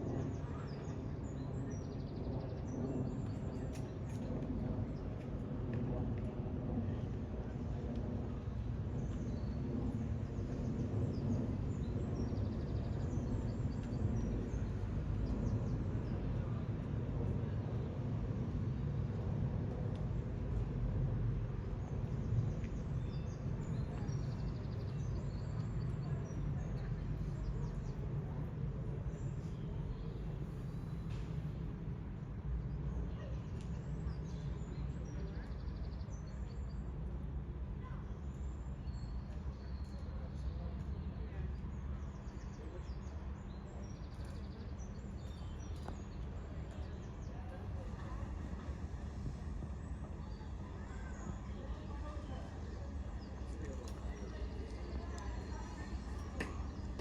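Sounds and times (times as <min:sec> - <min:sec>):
low outdoor rumble: 0:00.0 - 0:35.8, 0:40.6 - 0:57.0.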